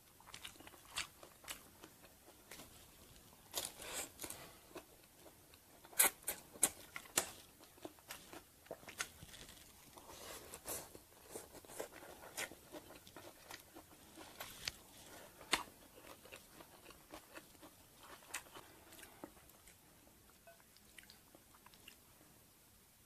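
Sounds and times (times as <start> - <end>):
chewing crisp lettuce: 0.0 - 19.8.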